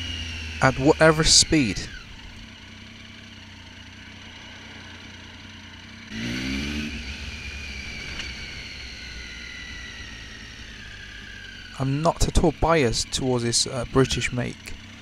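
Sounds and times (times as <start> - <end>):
motorcycle engine with high whine: 0.0 - 15.0.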